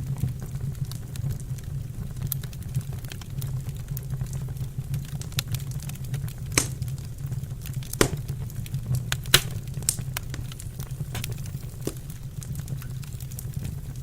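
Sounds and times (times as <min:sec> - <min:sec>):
fire low rumble: 0:00.0 - 0:14.0
wood fire crackling: 0:00.0 - 0:14.0.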